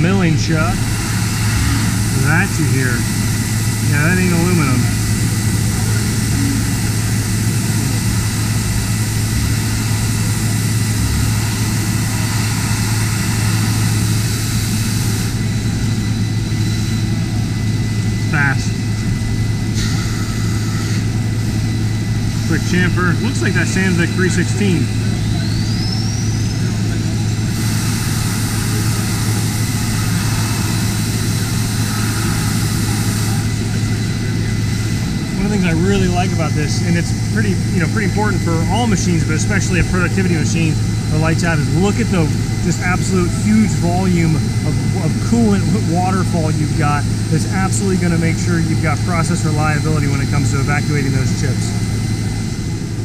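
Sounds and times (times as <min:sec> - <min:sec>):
milling machine cutting: 0:00.0 - 0:52.4
low hum: 0:00.0 - 0:53.0
thin constant whine: 0:00.0 - 0:53.0.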